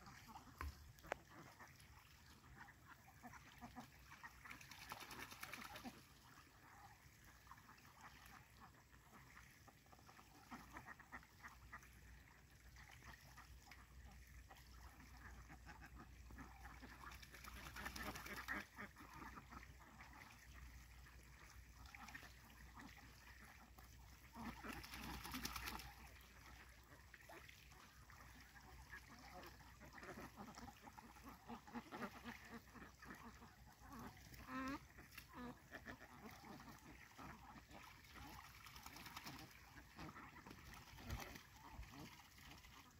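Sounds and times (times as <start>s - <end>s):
ducks quacking: 0.0s - 12.2s, 12.9s - 20.7s, 21.4s - 42.9s.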